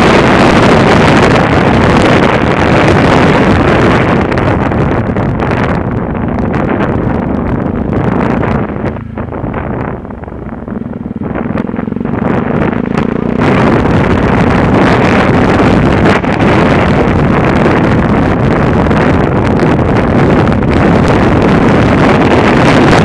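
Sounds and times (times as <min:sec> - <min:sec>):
motorcycle engine running: 0:00.0 - 0:23.0
wind rush on microphone: 0:00.0 - 0:23.0.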